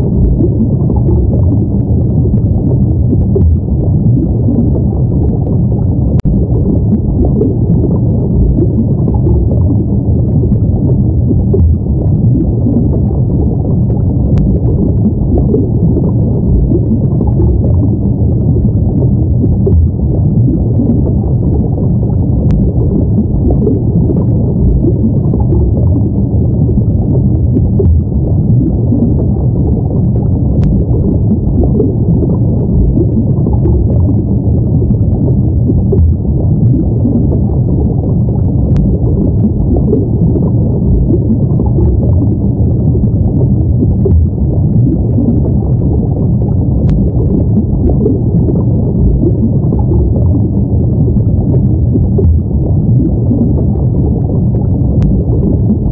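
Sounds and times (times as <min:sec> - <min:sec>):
muffled underwater rumble: 0:00.0 - 0:55.9.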